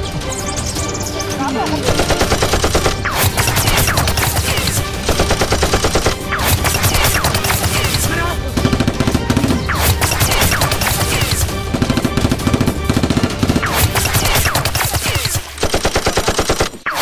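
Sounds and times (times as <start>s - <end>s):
machine gun sound effects: 1.9s - 8.1s, 8.7s - 17.0s.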